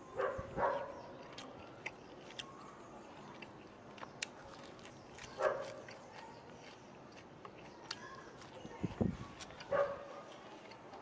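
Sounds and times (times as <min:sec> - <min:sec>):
herb leaves being picked: 0:00.7 - 0:11.0.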